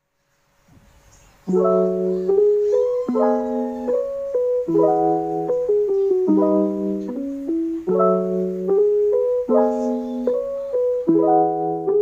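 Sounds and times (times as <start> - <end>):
background music: 1.5 - 12.0.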